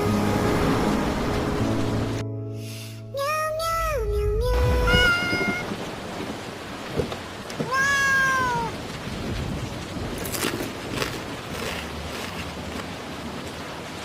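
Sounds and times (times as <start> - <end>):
steady hiss like rain: 0.0 - 14.0.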